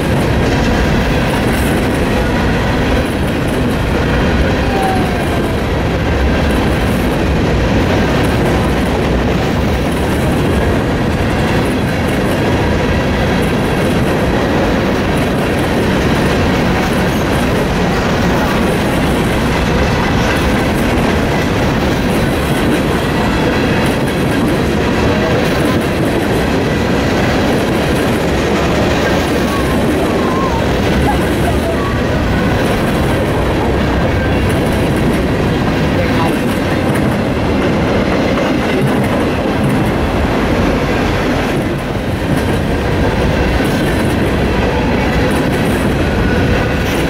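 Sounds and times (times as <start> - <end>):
freight train cars rolling: 0.0 - 47.0
wheels clacking over rail joints: 0.0 - 47.0.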